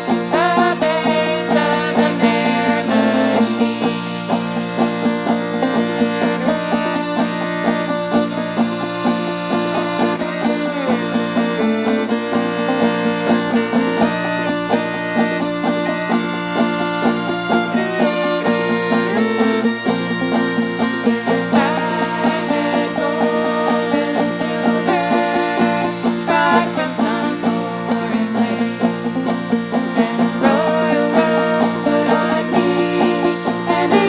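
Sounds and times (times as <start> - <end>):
fiddle: 0.0 - 34.0
old-time banjo music: 0.0 - 34.0.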